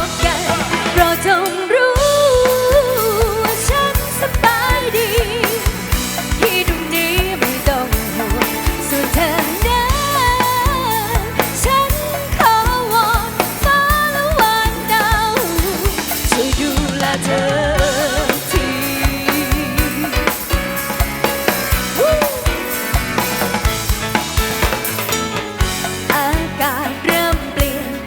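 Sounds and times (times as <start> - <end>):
drum kit beat: 0.0 - 28.0
live band music: 0.0 - 28.0.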